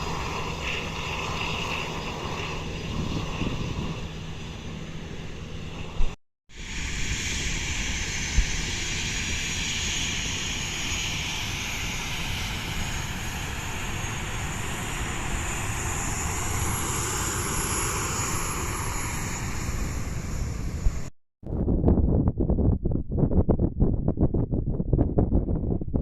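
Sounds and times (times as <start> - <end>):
airplane engines running: 0.0 - 21.1.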